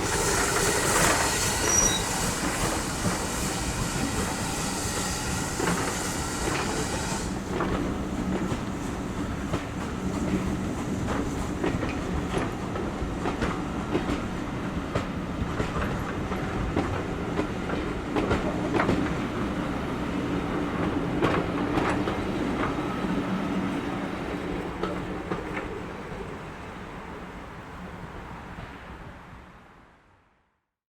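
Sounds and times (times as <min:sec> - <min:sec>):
train wheels rumbling on rails: 0:00.0 - 0:29.7.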